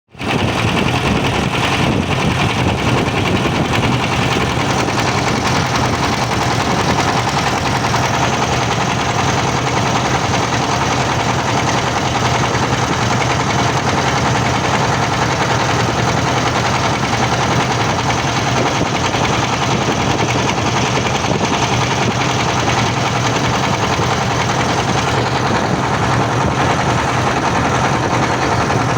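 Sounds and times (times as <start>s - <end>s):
boat engine humming: 0.2s - 28.9s
rushing water noise: 0.2s - 28.9s.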